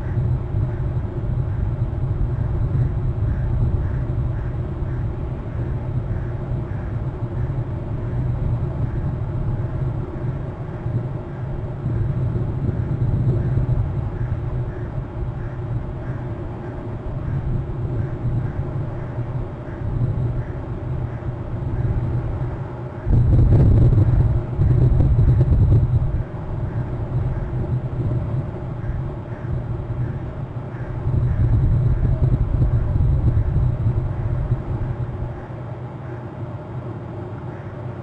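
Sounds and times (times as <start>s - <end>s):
wind buffeting microphone: 0.0s - 35.8s.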